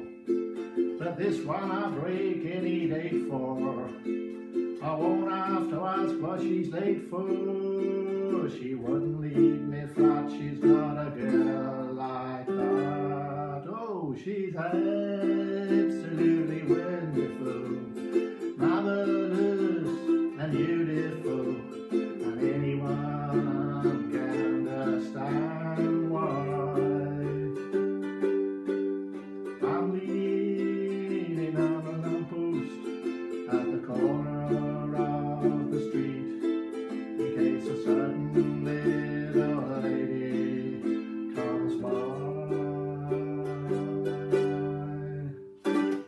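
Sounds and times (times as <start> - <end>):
ukulele strumming: 0.0 - 46.0.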